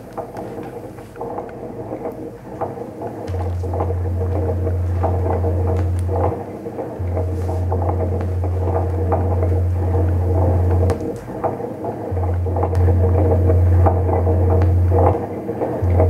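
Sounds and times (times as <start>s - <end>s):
constant crackling: 0.0s - 16.0s
loud low electric hum: 0.0s - 16.0s.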